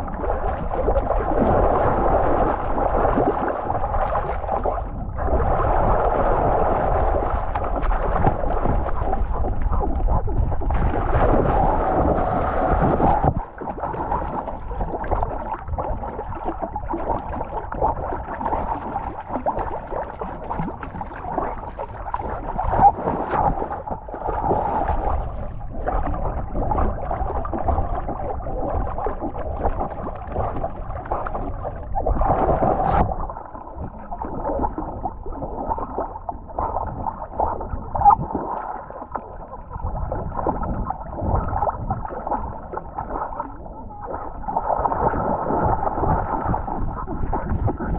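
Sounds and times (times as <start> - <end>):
water splashing and lapping: 0.0 - 47.9.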